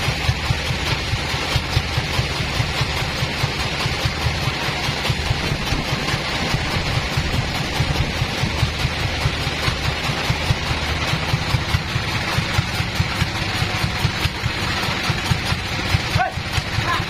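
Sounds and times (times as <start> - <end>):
sawmill engine idling: 0.0 - 17.0.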